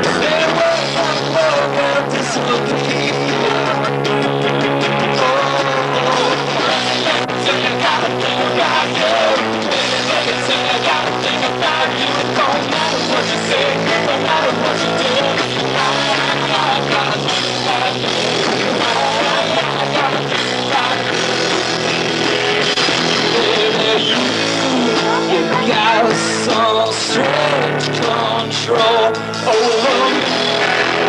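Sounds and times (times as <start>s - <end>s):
bass guitar: 0.0s - 31.0s
drum kit: 0.0s - 31.0s
electric guitars: 0.0s - 31.0s.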